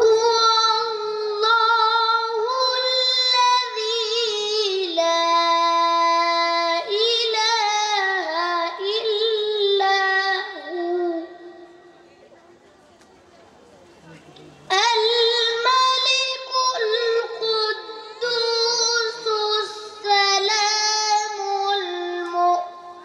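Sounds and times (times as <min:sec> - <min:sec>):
boy singing solo: 0:00.0 - 0:11.7, 0:14.7 - 0:23.0.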